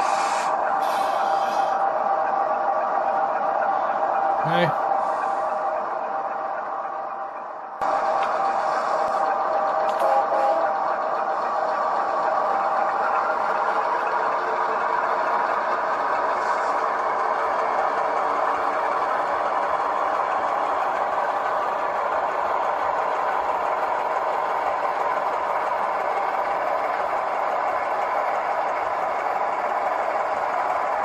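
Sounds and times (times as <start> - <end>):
locomotive hum and rattle: 0.0 - 31.0.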